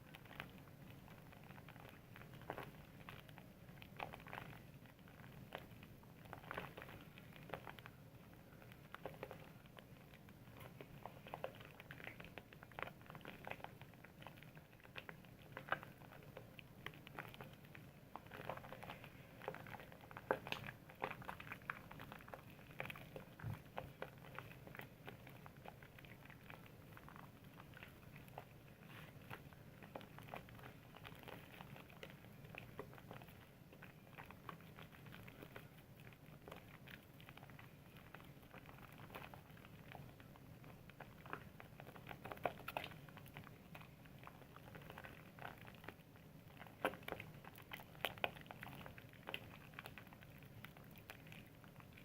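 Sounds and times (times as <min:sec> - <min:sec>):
soap lather squishing and popping: 0:00.0 - 0:52.0.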